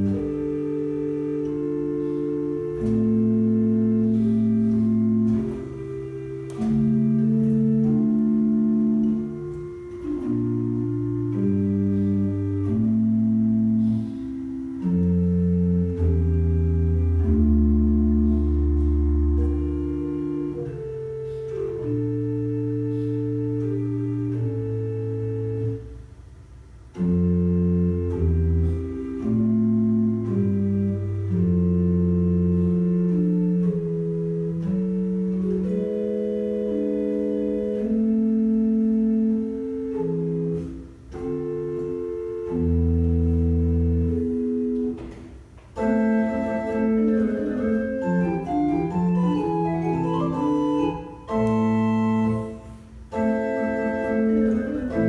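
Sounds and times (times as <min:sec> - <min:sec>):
pipe organ playing chords: 0:00.0 - 0:55.0.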